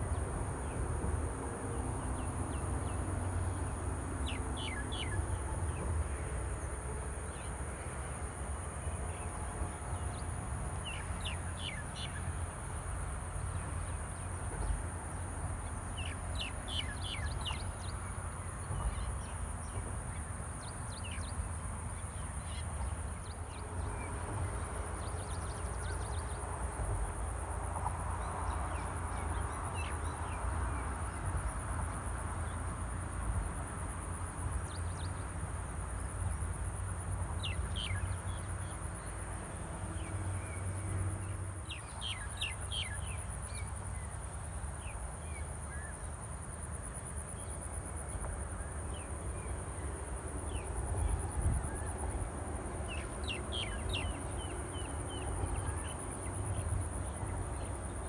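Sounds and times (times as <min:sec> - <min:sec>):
constant high hiss: 0:00.0 - 0:58.0.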